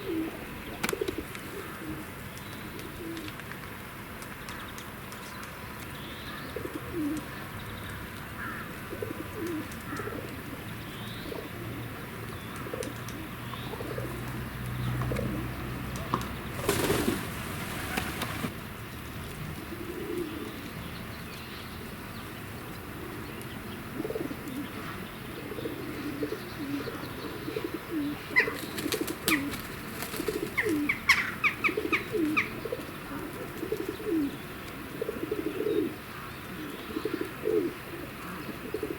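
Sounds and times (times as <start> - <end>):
pigeons cooing: 0.0 - 3.4, 6.4 - 7.5, 8.4 - 18.5, 19.6 - 20.6, 23.0 - 38.9.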